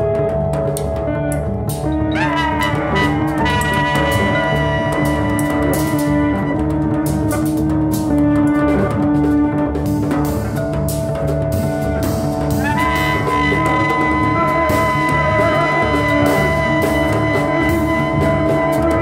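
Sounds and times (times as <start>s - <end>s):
electric guitar: 0.0s - 19.0s
percussion: 0.0s - 19.0s
saxophone melody: 0.0s - 19.0s
upright bass line: 0.0s - 19.0s.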